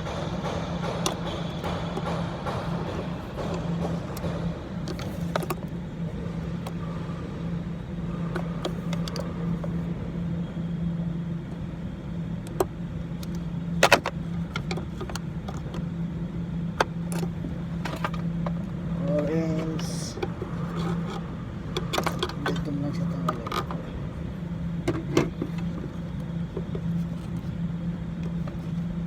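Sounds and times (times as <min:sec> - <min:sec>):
hand tools clicking on car parts: 0:00.0 - 0:07.0, 0:08.1 - 0:09.9, 0:12.4 - 0:15.9, 0:16.7 - 0:24.0, 0:24.8 - 0:29.0
steady low hum: 0:00.0 - 0:29.0.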